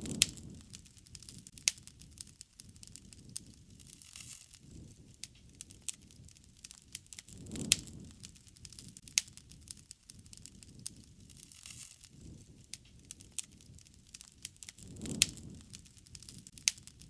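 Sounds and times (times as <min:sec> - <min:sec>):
low rushing of flames: 0:00.0 - 0:17.0
sharp pops of fire: 0:00.0 - 0:17.0
wood fire crackling: 0:00.0 - 0:17.0.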